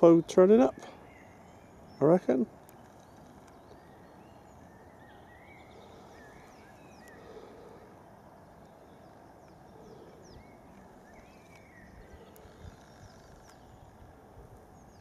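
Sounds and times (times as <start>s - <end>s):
low steady background noise: 0.0s - 15.0s
small birds chirping: 0.0s - 15.0s.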